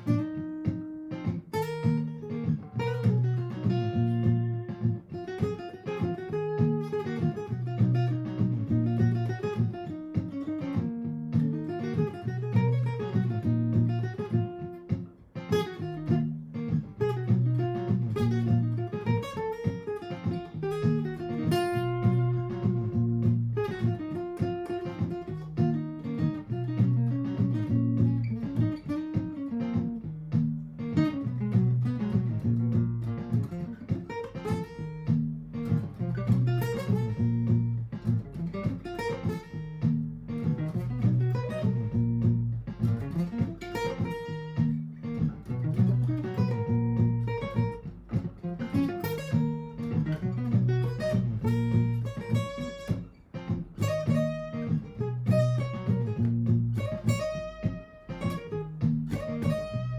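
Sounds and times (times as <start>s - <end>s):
acoustic guitar single-note lines: 0.0s - 59.9s
looped acoustic guitar chords: 0.0s - 59.9s.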